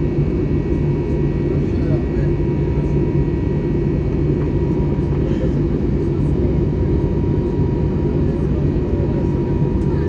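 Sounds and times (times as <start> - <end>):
jet engine roar in cabin: 0.0 - 10.0.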